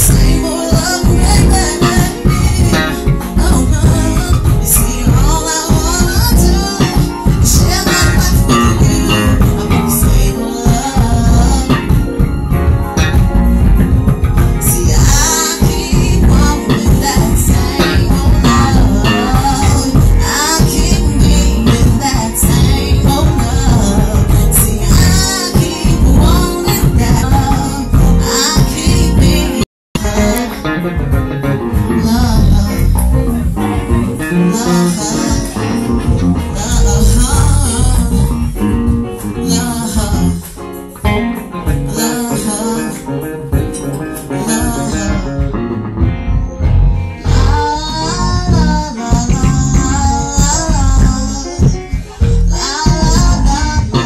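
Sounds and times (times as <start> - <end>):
person singing: 0.0 - 12.2, 14.5 - 40.8, 41.5 - 45.7, 47.2 - 54.0
heavy bass: 0.0 - 40.8, 44.6 - 54.0
electric guitar: 0.0 - 54.0
live band playing loudly: 0.0 - 54.0.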